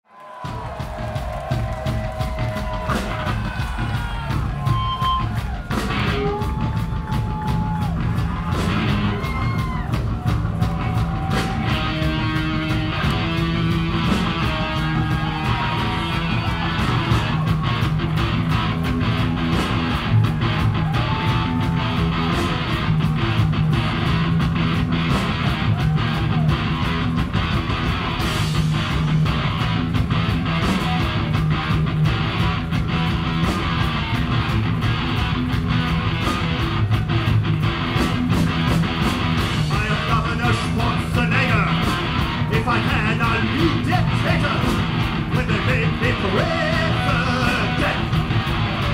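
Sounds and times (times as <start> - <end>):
live heavy rock band: 0.3 - 48.9.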